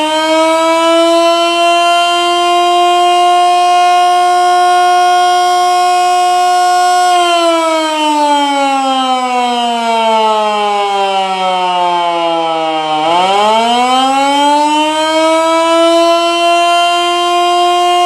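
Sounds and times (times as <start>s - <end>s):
rotating electric siren wailing: 0.0s - 18.0s.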